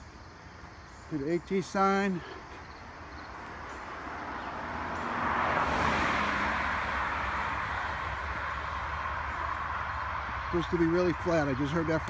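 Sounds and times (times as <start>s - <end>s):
car passing: 0.0s - 12.0s.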